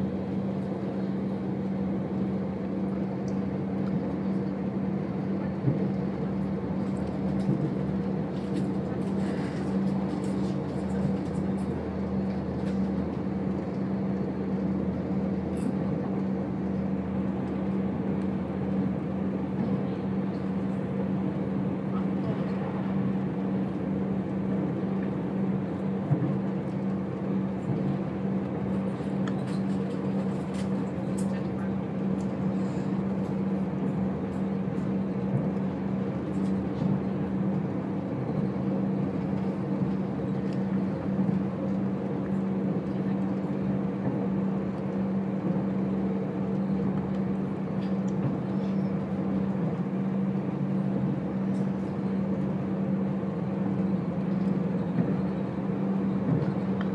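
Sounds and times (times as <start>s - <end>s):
train running drone: 0.0s - 56.9s.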